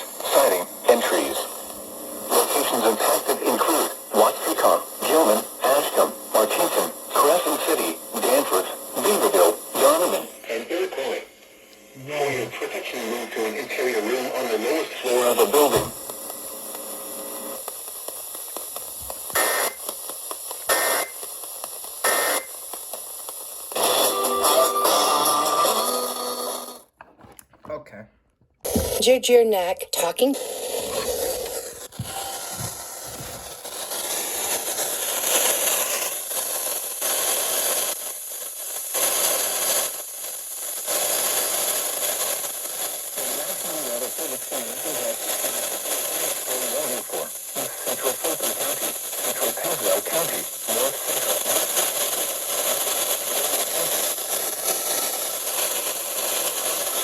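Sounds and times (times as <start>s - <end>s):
radio hiss and static: 0.0s - 26.9s, 28.7s - 57.0s.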